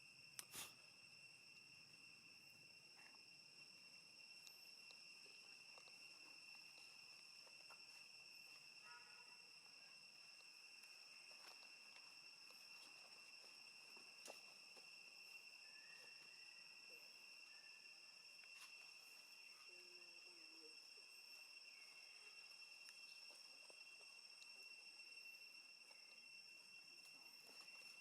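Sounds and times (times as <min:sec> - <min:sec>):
high-pitched insect drone: 0:00.0 - 0:28.0.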